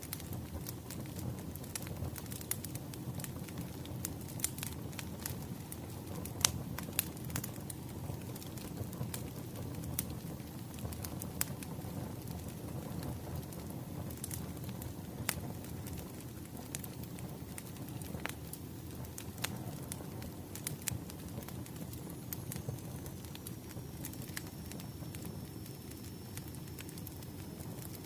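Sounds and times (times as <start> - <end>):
low rumble of flame: 0.0 - 28.0
wood fire crackling: 0.0 - 28.0.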